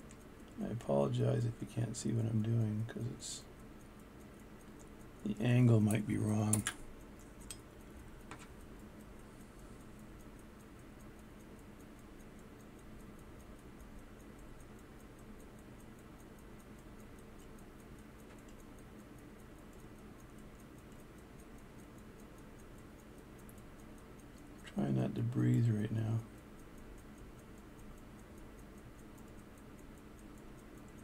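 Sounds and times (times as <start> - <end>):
pocket watch ticking: 0.0 - 31.0.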